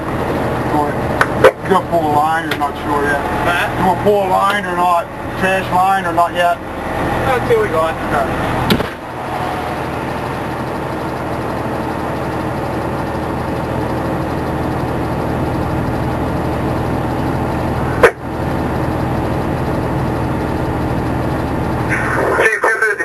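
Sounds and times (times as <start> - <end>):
fire engine running: 0.0 - 23.0.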